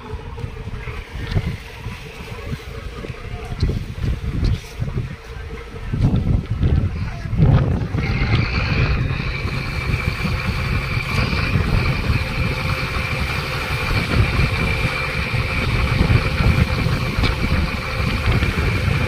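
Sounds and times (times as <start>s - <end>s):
boat engine running: 0.0s - 19.0s
high whine: 0.0s - 19.0s
water churning against hull: 0.0s - 19.0s.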